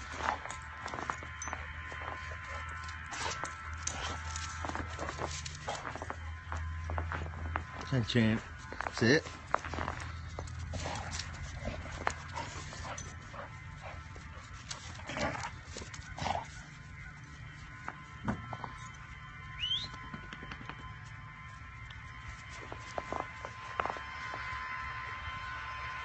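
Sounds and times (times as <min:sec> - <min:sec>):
dogs scuffling in snow: 0:00.0 - 0:19.8, 0:20.8 - 0:26.0.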